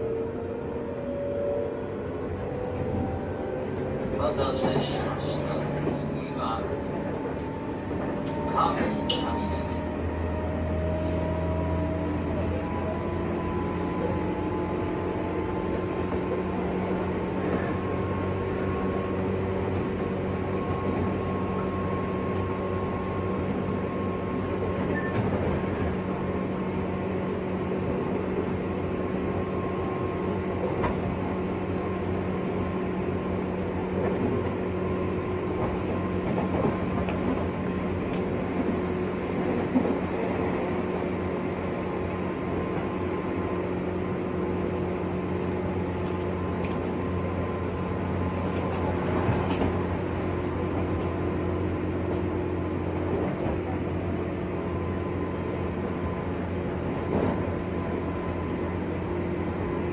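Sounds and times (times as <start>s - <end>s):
wheel-on-rail rumble: 2.4s - 59.9s.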